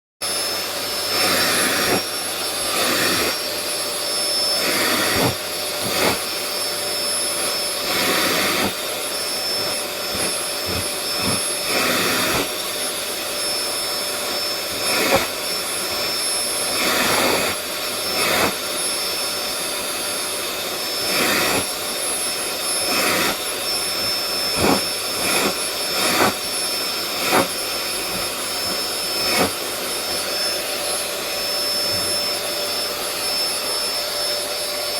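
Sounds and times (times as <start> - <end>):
vacuum cleaner running: 0.2 - 34.9.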